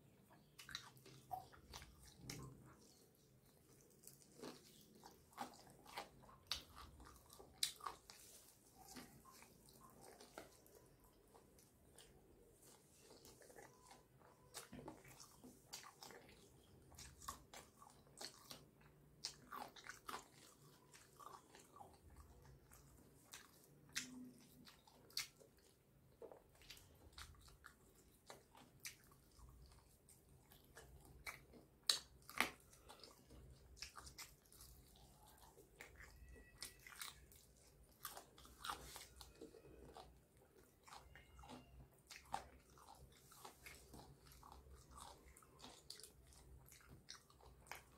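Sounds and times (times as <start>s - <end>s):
person biting and chewing: 3.6s - 25.4s, 26.2s - 47.9s.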